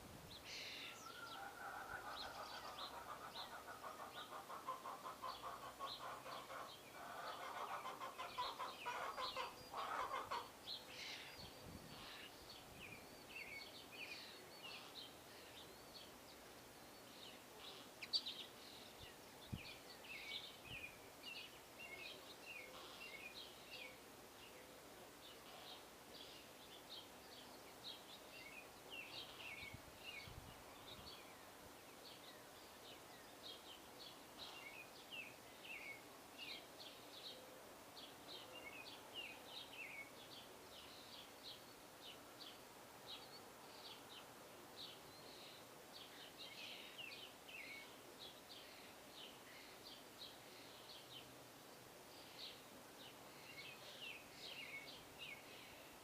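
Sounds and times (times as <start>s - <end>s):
small songbirds chirping: 0.0s - 56.0s
soft background hiss: 0.0s - 56.0s.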